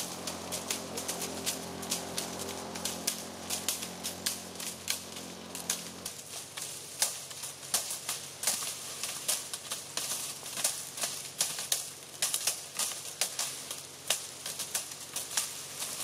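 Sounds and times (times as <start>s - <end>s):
dry branches being beaten: 0.0s - 16.0s.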